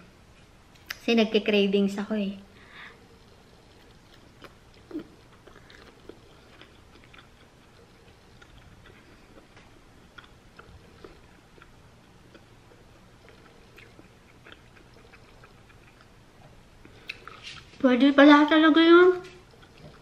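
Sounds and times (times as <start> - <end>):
person chewing softly: 2.6 - 20.0.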